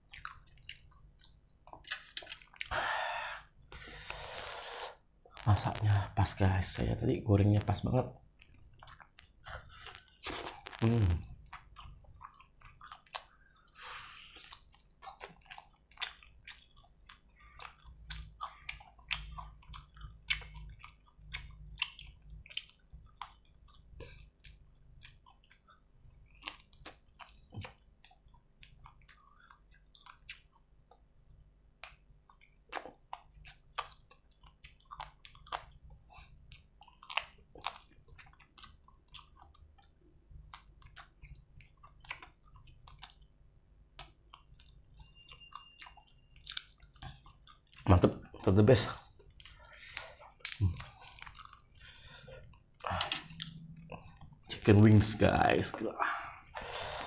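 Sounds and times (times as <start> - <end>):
chewing fried chicken: 0.0 - 57.0
wet mouth clicks and smacks: 0.1 - 2.7, 8.4 - 13.4, 14.3 - 43.3, 43.9 - 48.4, 49.2 - 54.5.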